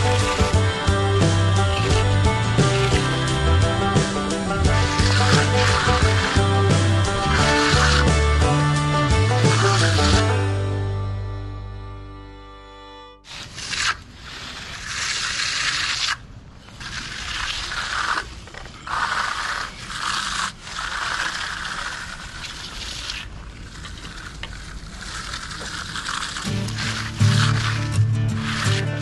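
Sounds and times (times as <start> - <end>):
hand tool scraping concrete: 0.0 - 10.8, 13.2 - 29.0.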